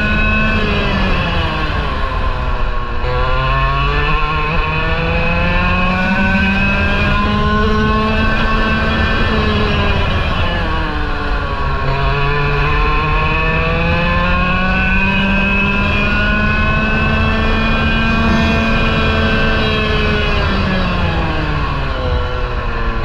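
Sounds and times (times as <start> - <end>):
kart engine at full throttle: 0.0 - 23.0.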